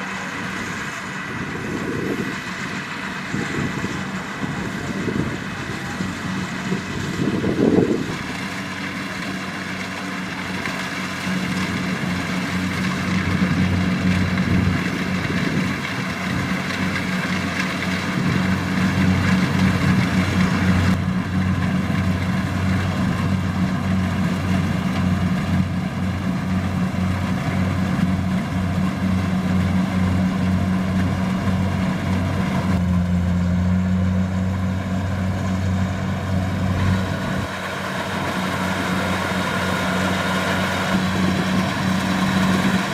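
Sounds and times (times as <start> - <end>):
combine harvester diesel engine: 0.0 - 42.9.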